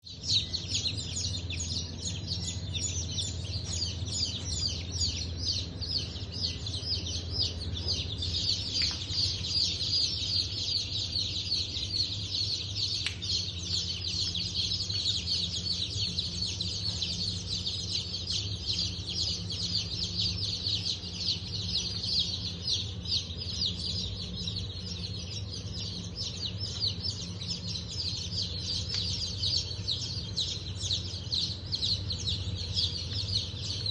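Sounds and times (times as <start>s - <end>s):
chicks and ducklings peeping: 0.1s - 33.9s.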